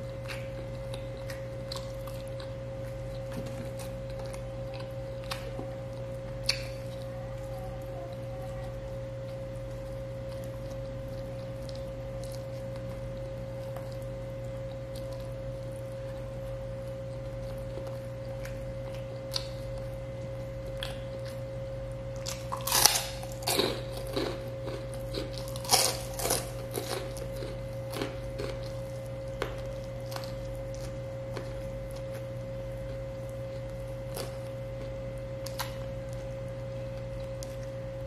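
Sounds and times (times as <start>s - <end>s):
crunchy bites and mouth clicks: 0.0s - 7.1s, 9.3s - 37.8s
person chewing and biting food: 0.0s - 7.1s, 9.2s - 37.9s
faint steady hum: 0.0s - 38.0s.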